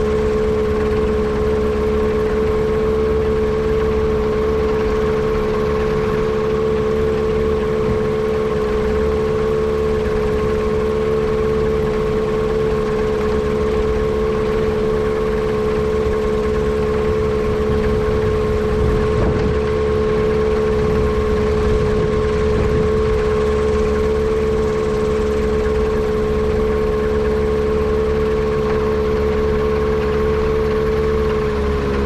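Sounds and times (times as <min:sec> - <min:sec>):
airplane engine running steadily: 0:00.0 - 0:32.0.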